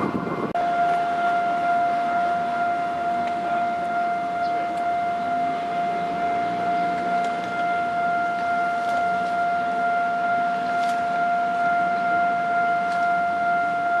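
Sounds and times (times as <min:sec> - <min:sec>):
level crossing alarm tone: 0:00.1 - 0:14.0.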